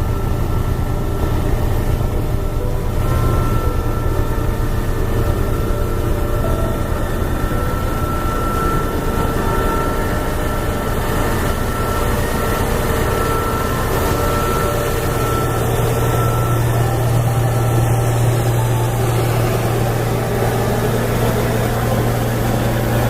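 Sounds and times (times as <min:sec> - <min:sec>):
heavy engine running: 0:00.0 - 0:23.0
mechanical wash: 0:00.0 - 0:23.0.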